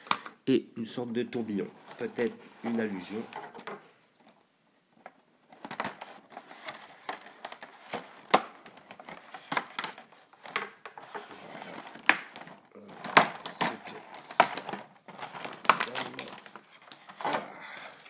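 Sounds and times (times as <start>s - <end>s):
plastic packaging crackling: 1.5s - 3.7s, 5.0s - 18.0s.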